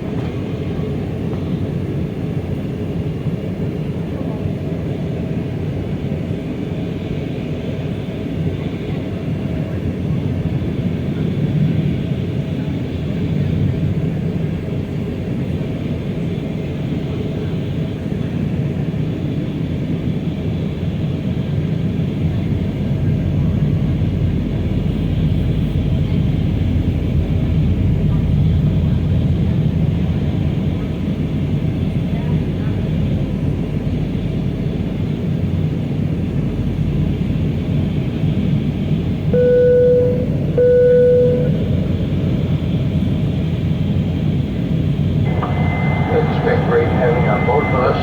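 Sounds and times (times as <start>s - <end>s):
airplane cabin engine rumble: 0.0s - 48.0s.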